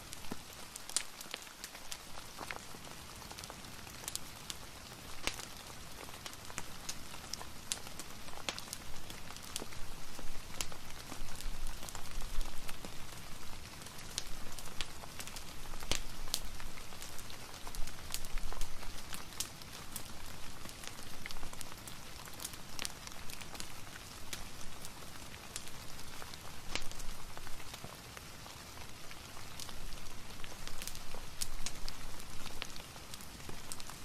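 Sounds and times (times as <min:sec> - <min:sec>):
fireplace crackling: 0:00.0 - 0:34.0
steady rain falling: 0:00.0 - 0:34.0.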